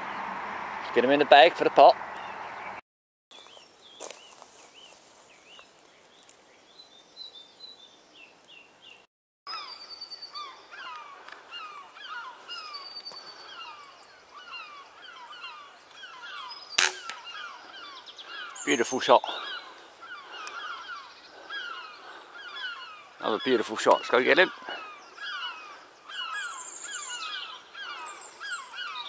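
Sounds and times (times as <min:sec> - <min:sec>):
wild birds chirping: 0:00.0 - 0:29.0.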